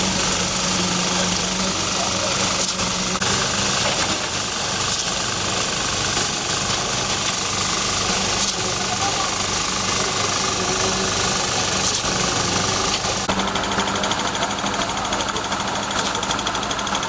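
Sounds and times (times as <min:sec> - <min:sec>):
large engine running: 0:00.0 - 0:17.0.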